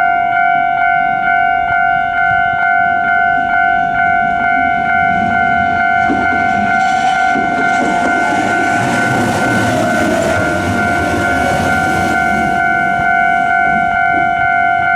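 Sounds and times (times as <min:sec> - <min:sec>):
level-crossing warning bell ringing: 0:00.0 - 0:14.9
electric train passing: 0:00.4 - 0:14.9.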